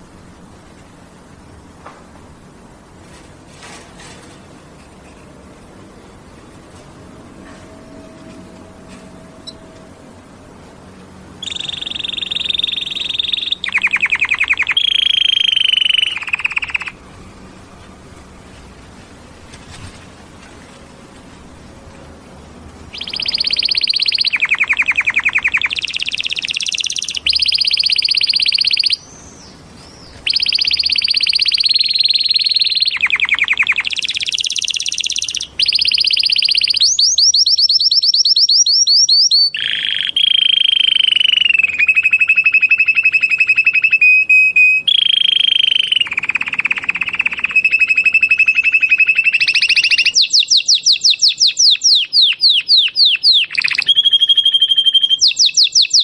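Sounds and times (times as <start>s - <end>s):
canary singing: 4.9s - 19.0s, 22.7s - 56.0s.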